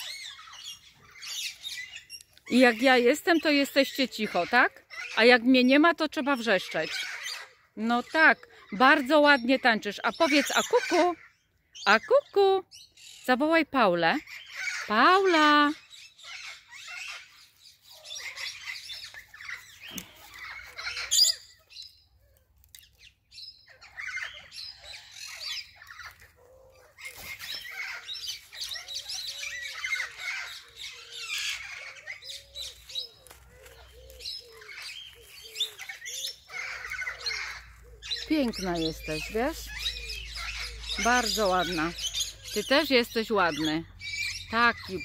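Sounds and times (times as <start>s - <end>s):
birds chirping and twittering: 0.0s - 45.0s.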